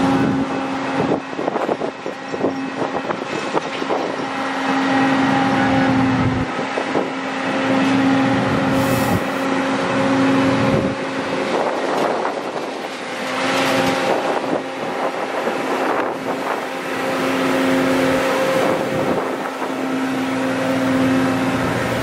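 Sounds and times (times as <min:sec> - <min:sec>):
diesel engine hum: 0:00.0 - 0:22.0
machine rumble and clatter: 0:00.0 - 0:22.0
wind on microphone: 0:00.0 - 0:22.0.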